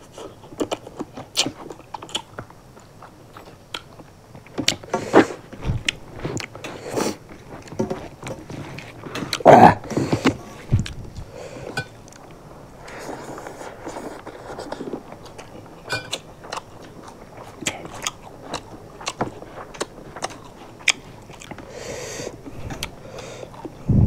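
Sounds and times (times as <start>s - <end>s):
people chewing and biting food: 0.0s - 24.0s.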